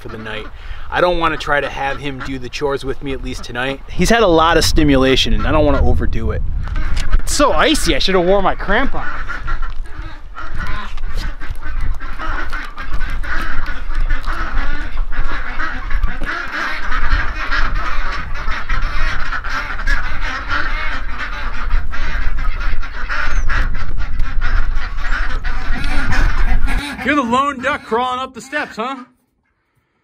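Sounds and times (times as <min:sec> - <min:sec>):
geese honking: 0:00.0 - 0:06.0, 0:06.6 - 0:29.4
ducks quacking: 0:00.0 - 0:29.4.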